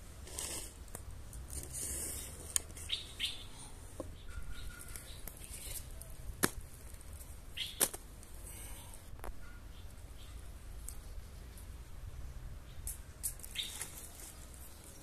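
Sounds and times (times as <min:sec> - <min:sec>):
small birds chirping: 0:02.1 - 0:06.3, 0:07.2 - 0:15.0.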